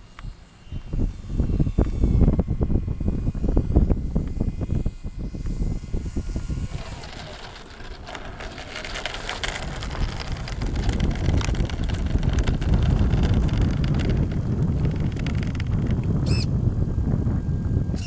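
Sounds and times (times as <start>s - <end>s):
high whine of electric motor: 0.0s - 18.0s
strong wind buffeting microphone: 0.8s - 18.0s.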